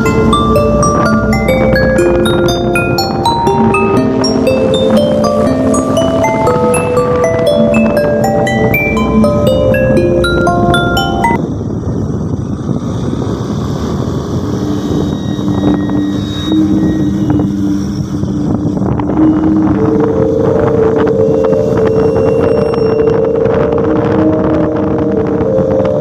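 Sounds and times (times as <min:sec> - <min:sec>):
higher hum: 0:00.0 - 0:11.4, 0:14.5 - 0:26.0
wind noise on microphone: 0:00.0 - 0:26.0.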